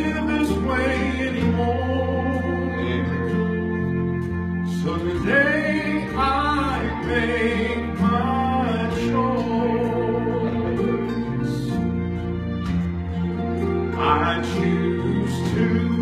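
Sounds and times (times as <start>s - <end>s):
man singing: 0.0s - 12.1s, 13.6s - 16.0s
instrumental accompaniment: 0.0s - 16.0s.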